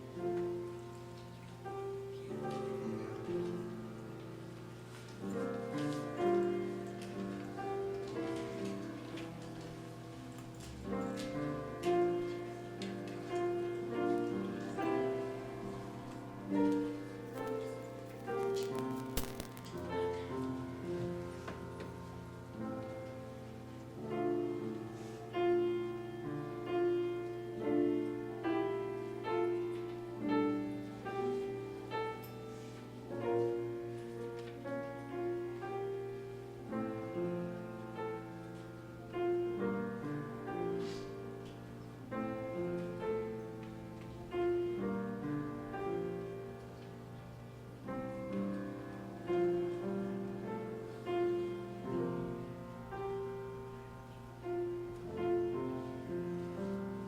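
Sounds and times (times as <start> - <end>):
slow piano piece: 0.0 - 57.0.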